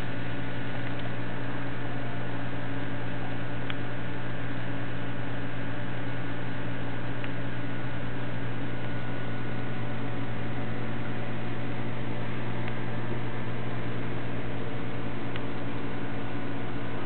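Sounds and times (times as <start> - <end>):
aquarium pumps humming: 0.0 - 17.0.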